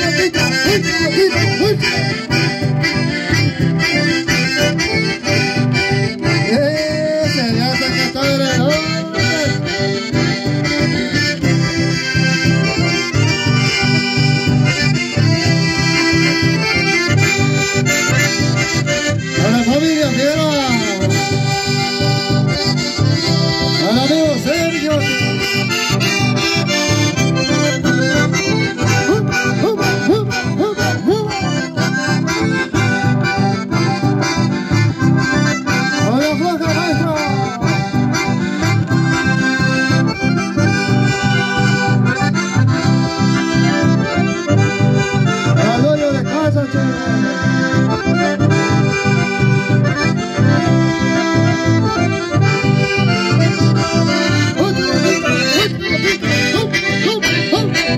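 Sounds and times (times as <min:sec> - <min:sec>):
accordions playing lively tune: 0:00.0 - 0:57.9
strummed acoustic guitar: 0:00.0 - 0:57.9.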